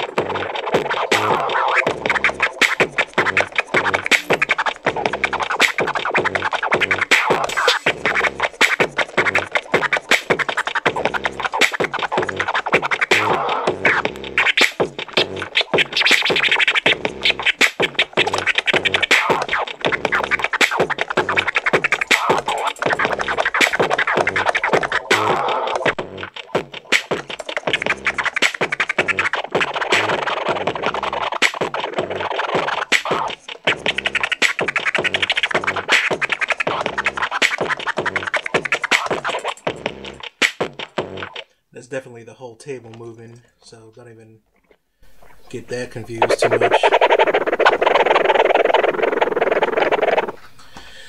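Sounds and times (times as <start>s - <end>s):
vinyl record scratching: 0.0s - 41.5s, 44.6s - 50.6s.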